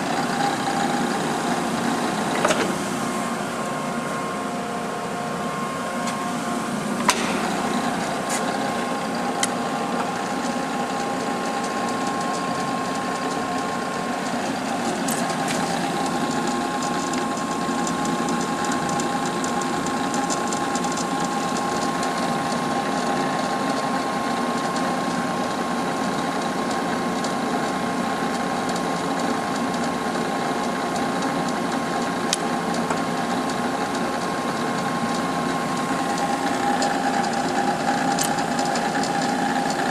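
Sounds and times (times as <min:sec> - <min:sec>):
grinder mechanical hum and whine: 0:00.0 - 0:39.9.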